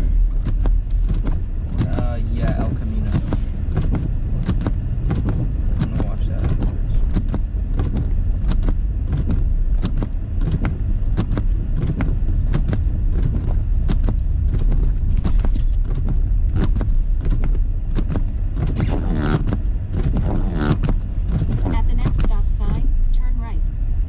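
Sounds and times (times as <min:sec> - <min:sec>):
car rumble driving through snow: 0:00.0 - 0:24.0.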